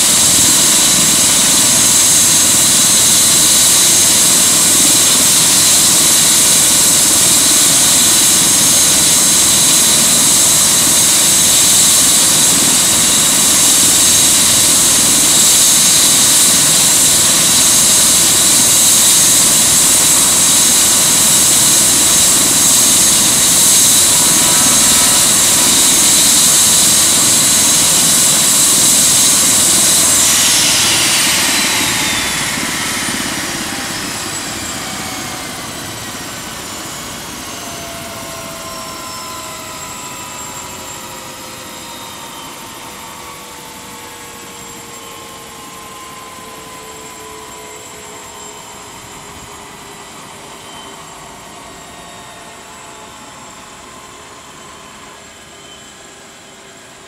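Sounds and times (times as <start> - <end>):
helicopter rotor rushing: 0.0 - 57.0
turbine engine whine: 0.0 - 57.0.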